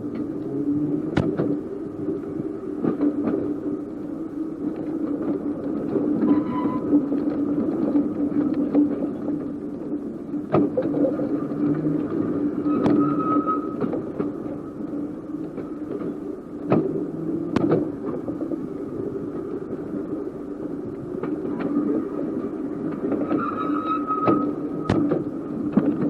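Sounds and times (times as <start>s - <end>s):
electric tram hum and rumble: 0.0s - 26.0s.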